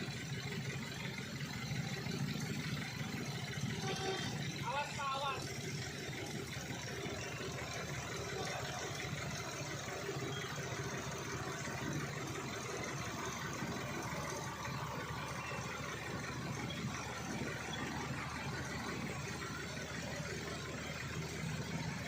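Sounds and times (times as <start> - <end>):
truck engine running at low revs: 0.0 - 22.0.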